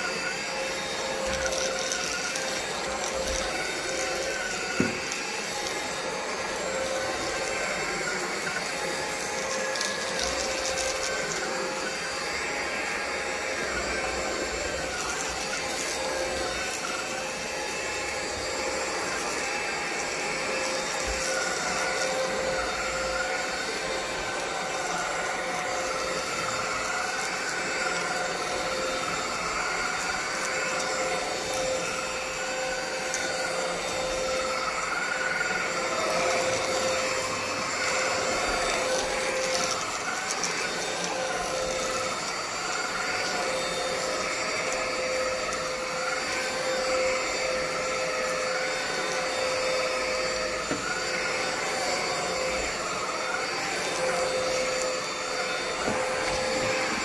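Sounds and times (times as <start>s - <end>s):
stick vacuum cleaner whining: 0.0s - 57.0s.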